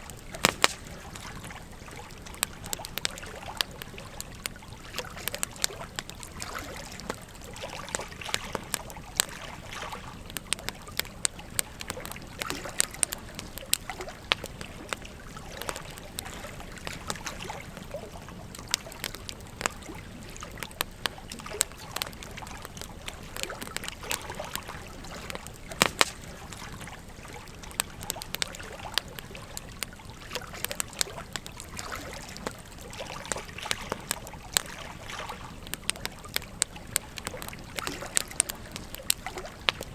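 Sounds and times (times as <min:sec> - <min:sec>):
campfire crackling and popping: 0:00.0 - 0:39.9
stream trickling: 0:00.0 - 0:39.9.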